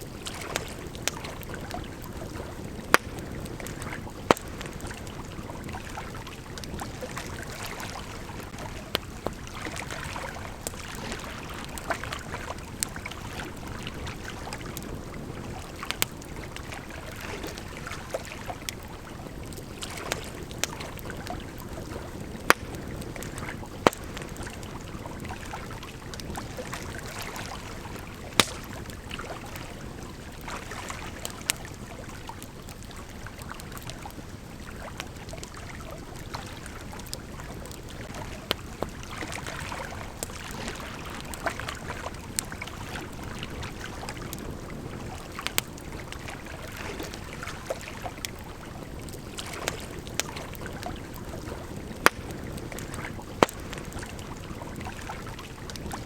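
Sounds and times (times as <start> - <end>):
campfire crackling and popping: 0.0 - 56.0
river flowing: 0.0 - 56.0.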